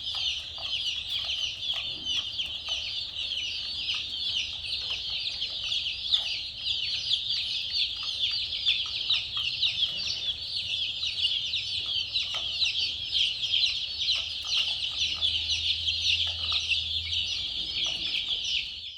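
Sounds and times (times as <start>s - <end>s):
baby chicks peeping: 0.0s - 18.9s.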